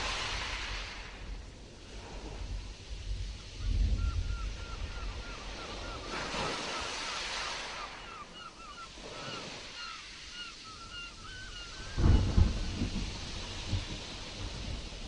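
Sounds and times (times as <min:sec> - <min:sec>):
sea waves surging: 0:00.0 - 0:15.0
wind: 0:00.0 - 0:15.0.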